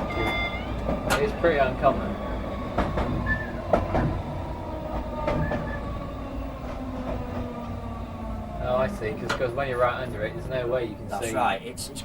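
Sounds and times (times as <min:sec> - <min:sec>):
train running rumble: 0:00.0 - 0:11.2.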